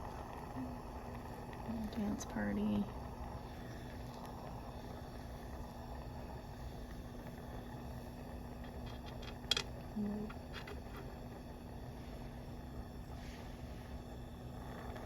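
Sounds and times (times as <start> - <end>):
soldering torch hissing: 0.0 - 15.0.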